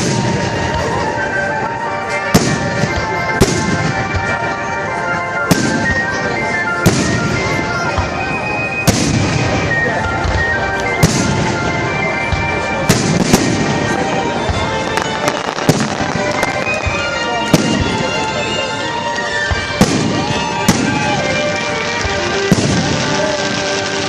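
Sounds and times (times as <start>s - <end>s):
music: 0.0s - 24.0s.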